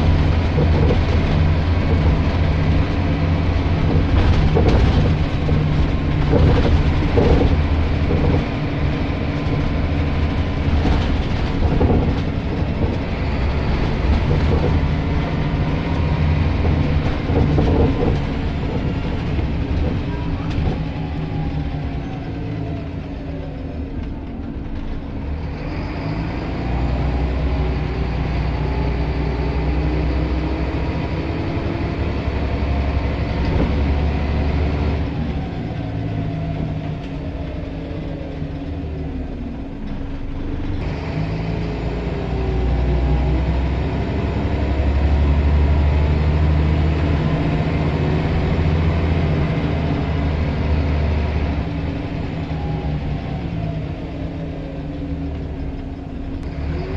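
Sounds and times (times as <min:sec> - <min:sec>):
bus engine running: 0:00.0 - 0:56.9
drivetrain whine: 0:00.0 - 0:56.9.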